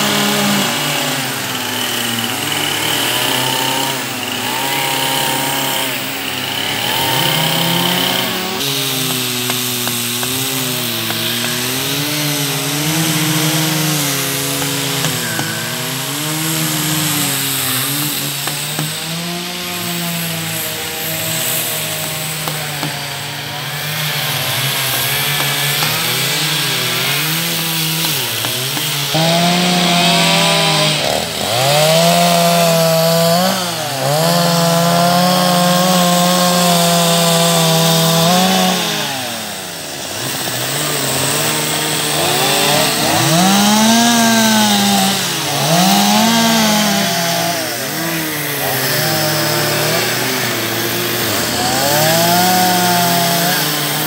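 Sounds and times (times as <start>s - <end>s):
chainsaw cutting wooden log: 0.0s - 54.0s.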